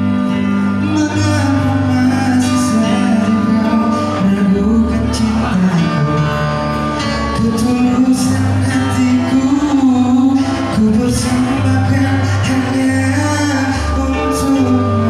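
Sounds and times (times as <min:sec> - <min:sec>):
bass: 0:00.0 - 0:15.0
guitar: 0:00.0 - 0:15.0
man singing: 0:00.0 - 0:15.0.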